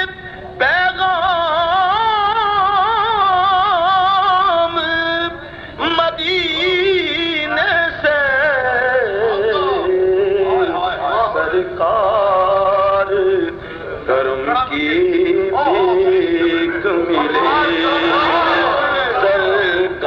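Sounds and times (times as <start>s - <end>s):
person singing devotional song: 0.0s - 20.0s.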